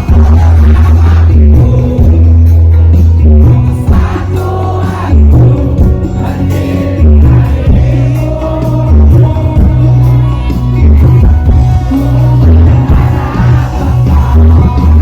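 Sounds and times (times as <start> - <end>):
crowd singing along: 0.0 - 2.8, 3.4 - 10.7, 11.7 - 15.0
heavy bass beats: 0.0 - 15.0
live music through pa: 0.0 - 15.0.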